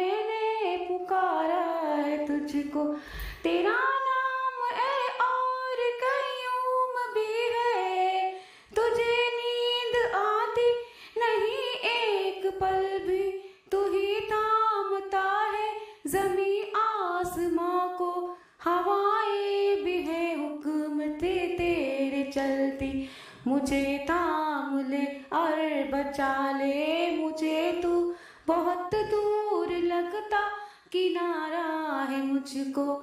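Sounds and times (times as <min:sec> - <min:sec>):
woman singing: 0:00.0 - 0:33.0.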